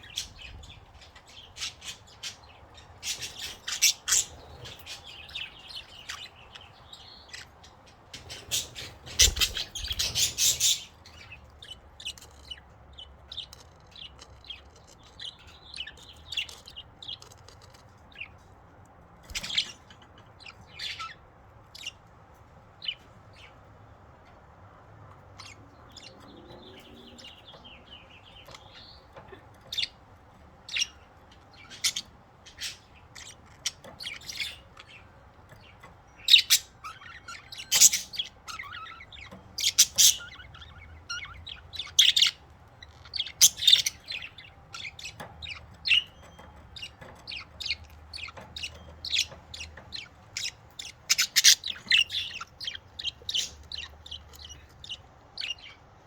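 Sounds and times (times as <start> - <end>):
budgerigars chirping: 0.0 - 24.4, 25.0 - 56.0.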